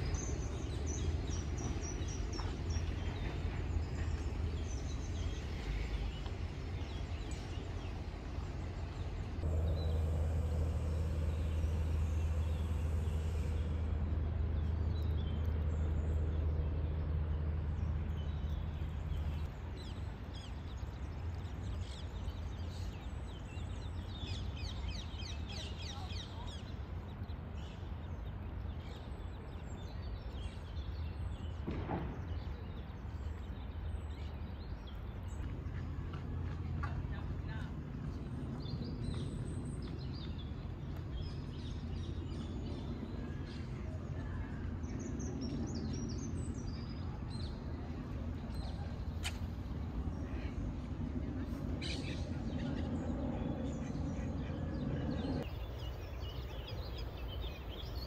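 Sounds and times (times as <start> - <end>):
steady low rumble: 0.0 - 27.4, 28.8 - 58.0
small birds chirping: 0.0 - 58.0.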